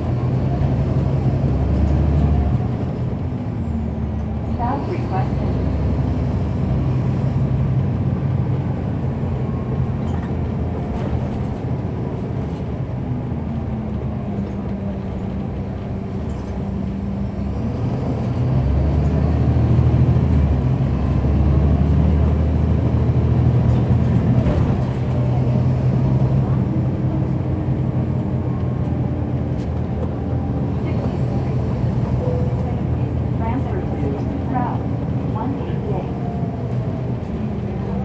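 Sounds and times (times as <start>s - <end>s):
bus diesel engine drone: 0.0s - 38.0s.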